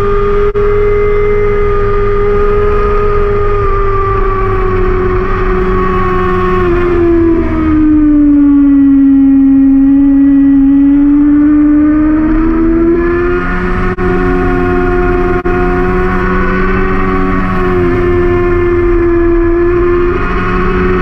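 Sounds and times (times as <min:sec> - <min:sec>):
motorcycle engine at high revs: 0:00.0 - 0:21.0.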